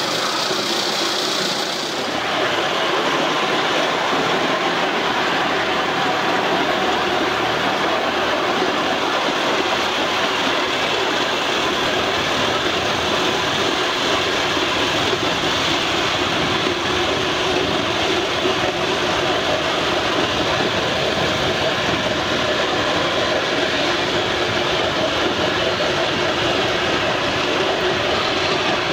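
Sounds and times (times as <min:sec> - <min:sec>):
steam hissing: 0:00.0 - 0:28.9.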